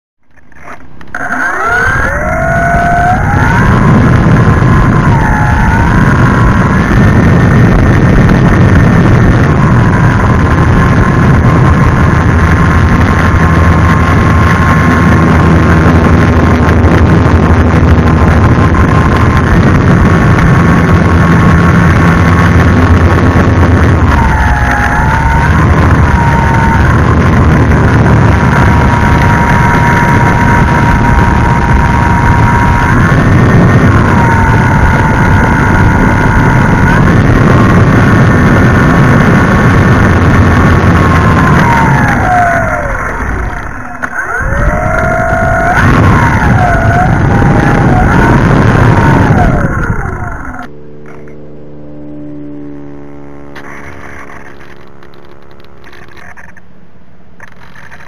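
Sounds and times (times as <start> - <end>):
rough rumble of taxiing on grass: 0.5 - 56.6
model plane electric motor whine: 0.6 - 56.6.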